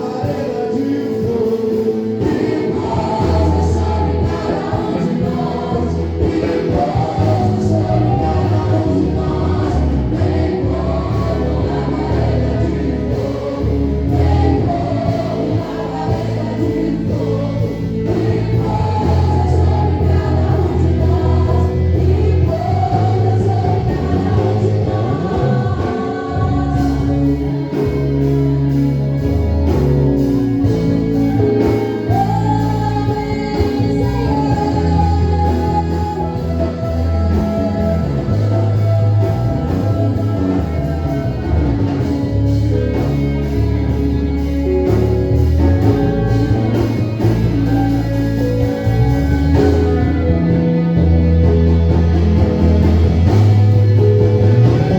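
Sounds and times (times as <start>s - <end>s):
group of voices singing: 0.0s - 54.9s
instrumental accompaniment with bass: 0.0s - 54.9s.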